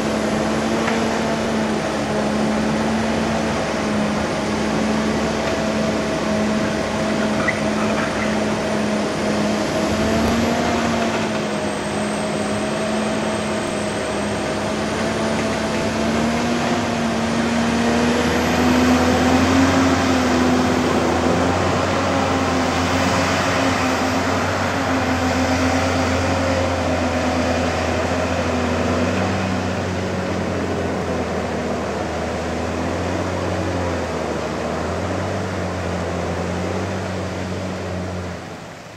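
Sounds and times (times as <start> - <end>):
diesel engine under load: 0.0 - 38.9.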